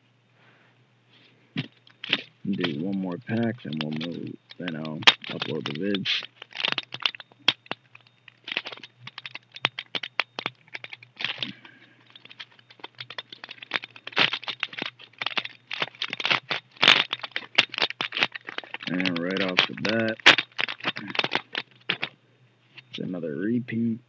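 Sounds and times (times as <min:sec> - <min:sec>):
wrapper crinkling and tearing: 0:01.6 - 0:22.1.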